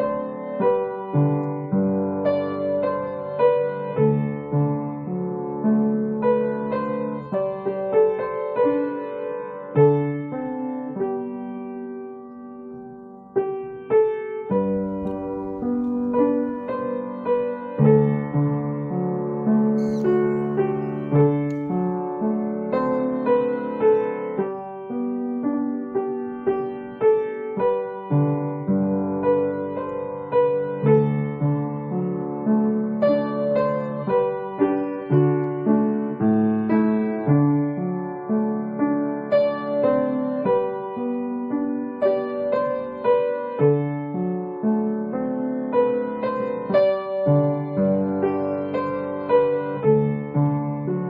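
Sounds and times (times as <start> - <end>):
slow piano melody: 0.0 - 51.0.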